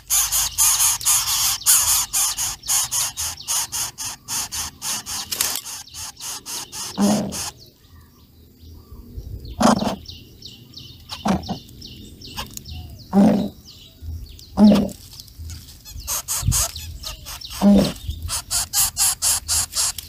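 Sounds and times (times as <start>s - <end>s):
short low bird calls: 0.0s - 7.7s, 8.8s - 10.2s, 11.0s - 15.1s, 15.8s - 20.0s
rapid high bird chirps: 0.0s - 7.8s, 9.6s - 20.0s.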